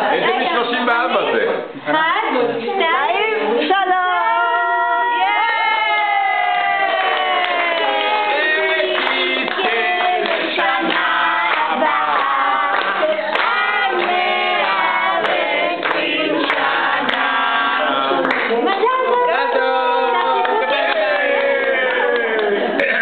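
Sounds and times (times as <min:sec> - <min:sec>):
group singing a celebration song: 0:04.2 - 0:23.0.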